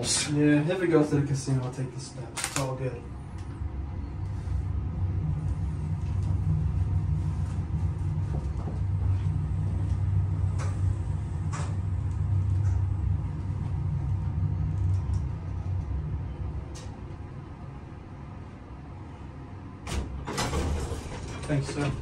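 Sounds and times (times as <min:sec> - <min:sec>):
elevator ride rumble: 0:00.0 - 0:22.0.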